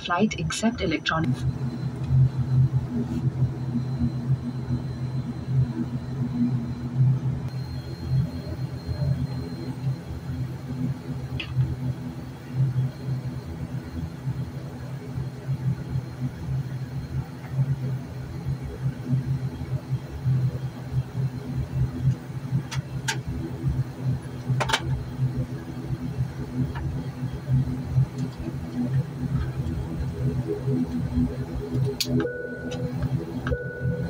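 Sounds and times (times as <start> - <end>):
airliner engines rumbling: 0.0 - 34.0.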